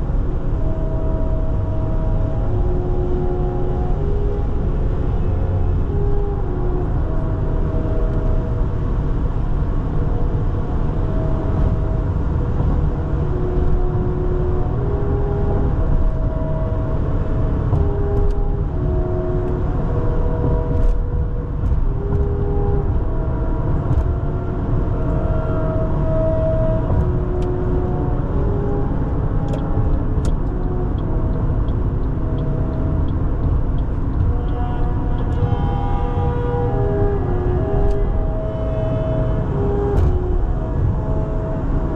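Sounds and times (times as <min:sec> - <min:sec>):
car road and engine rumble: 0:00.0 - 0:41.9
quiet music with held notes: 0:00.0 - 0:41.9.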